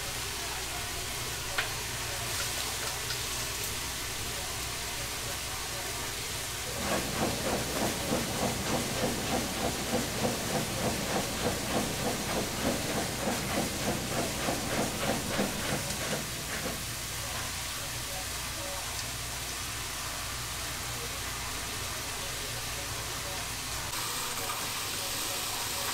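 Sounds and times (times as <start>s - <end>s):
pot of water boiling hard: 0.0s - 25.9s.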